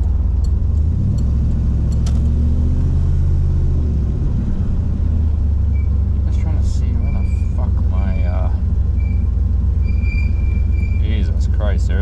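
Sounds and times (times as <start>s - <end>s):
car engine low drone: 0.0s - 12.0s.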